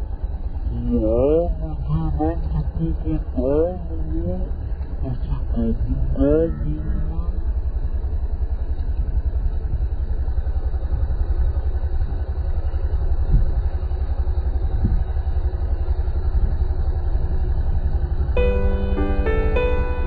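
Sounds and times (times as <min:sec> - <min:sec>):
vehicle rumble from on board: 0:00.0 - 0:20.0.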